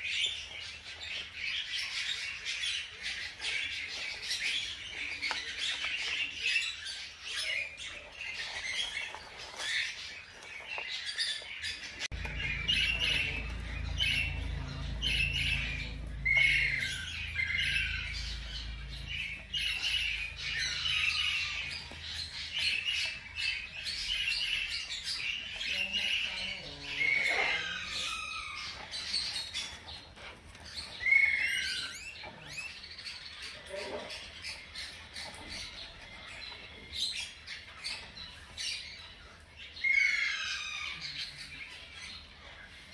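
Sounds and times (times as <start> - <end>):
hamster pups squeaking: 0.0 - 42.9.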